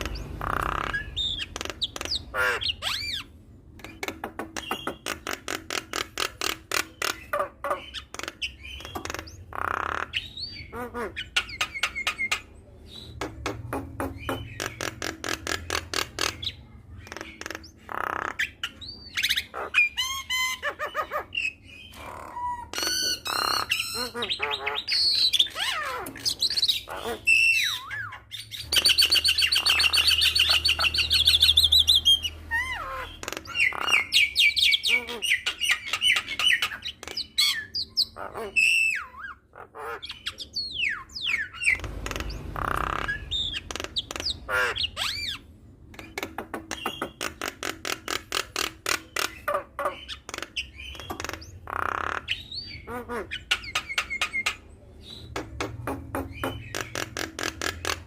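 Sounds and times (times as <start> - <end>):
bird singing varied song: 0.0 - 58.0.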